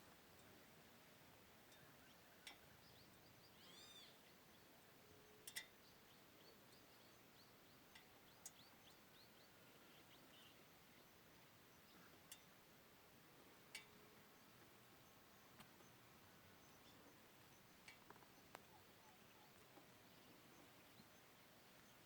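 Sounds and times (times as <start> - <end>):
faint bird chirps: 1.7 - 12.7, 13.7 - 22.0.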